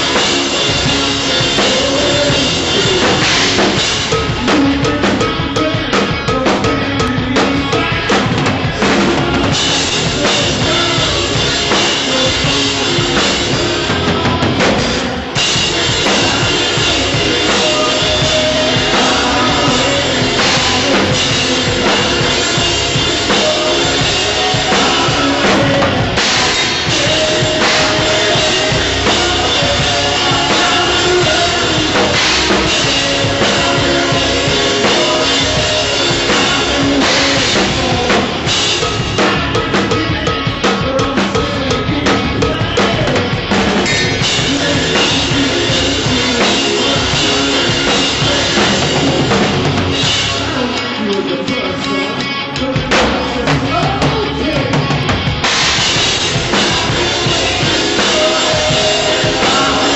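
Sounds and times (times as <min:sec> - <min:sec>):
rock band playing loudly: 0:00.0 - 0:59.9.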